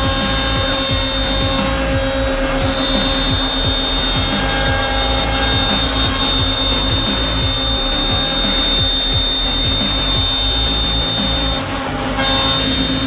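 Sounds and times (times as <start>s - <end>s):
machine spindle whining: 0.0s - 13.0s.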